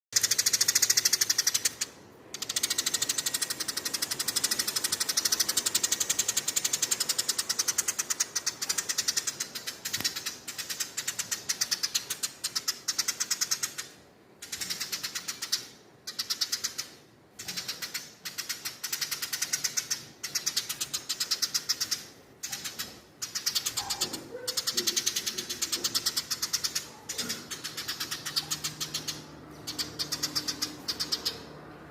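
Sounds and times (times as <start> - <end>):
sparrow chattering: 0.2 - 31.6.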